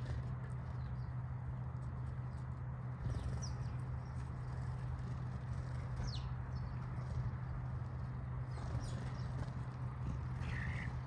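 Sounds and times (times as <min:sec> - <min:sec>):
beaks tapping on concrete: 0:00.0 - 0:11.0
steady low hum: 0:00.0 - 0:11.0.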